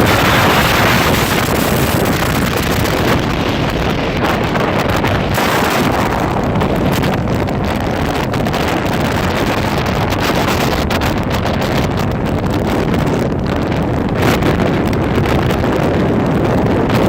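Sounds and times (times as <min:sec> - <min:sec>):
storm wind rushing: 0:00.0 - 0:17.0.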